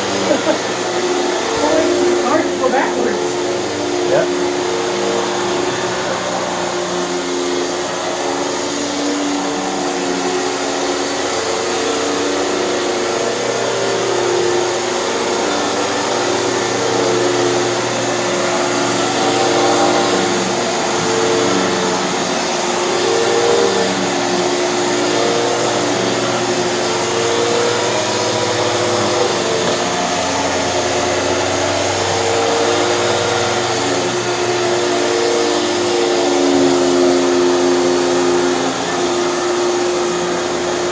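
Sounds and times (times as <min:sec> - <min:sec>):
vacuum cleaner whining: 0:00.0 - 0:40.9.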